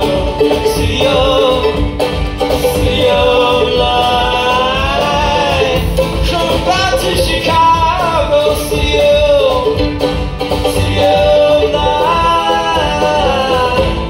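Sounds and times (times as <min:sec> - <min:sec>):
live folk-pop band: 0:00.0 - 0:14.0.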